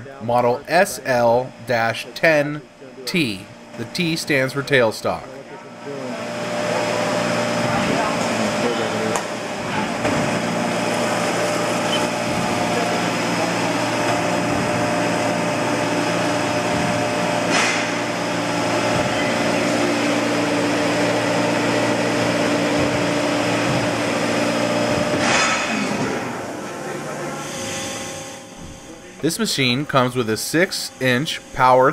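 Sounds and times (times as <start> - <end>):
lathe machine hum: 0.0 - 31.9.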